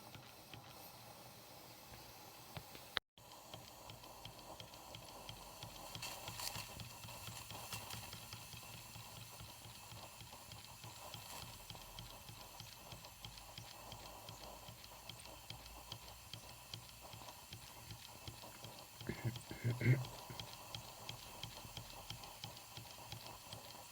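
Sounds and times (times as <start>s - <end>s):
model steam engine ticking: 3.2s - 23.9s.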